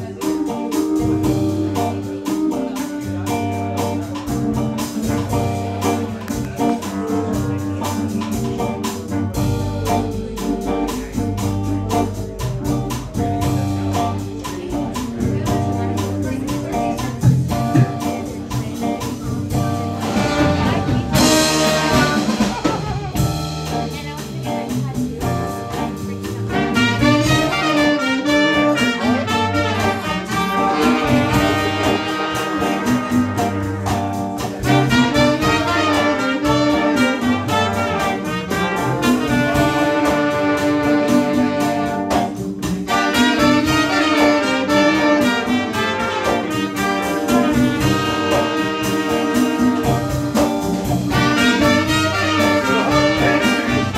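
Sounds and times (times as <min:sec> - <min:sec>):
bass line: 0:00.0 - 0:53.9
jazz brass horns: 0:00.0 - 0:53.9.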